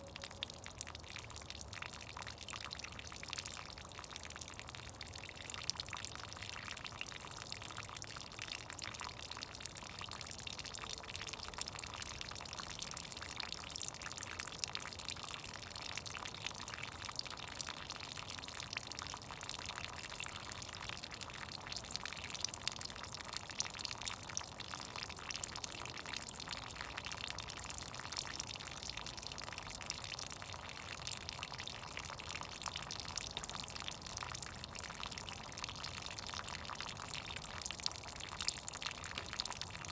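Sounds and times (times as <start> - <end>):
meltwater dripping and trickling: 0.0 - 39.9.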